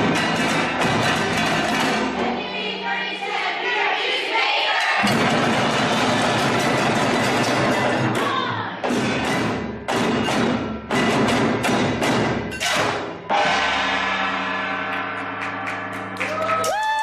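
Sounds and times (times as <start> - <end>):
percussion strikes: 0.0 - 3.4, 4.7 - 17.0.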